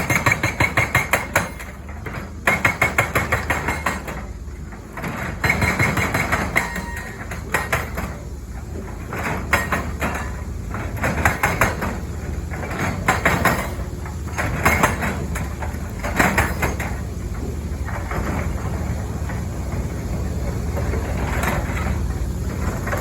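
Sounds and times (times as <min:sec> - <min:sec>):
hydraulic breaker hammering: 0:00.0 - 0:19.5
diesel engine running: 0:00.0 - 0:23.0.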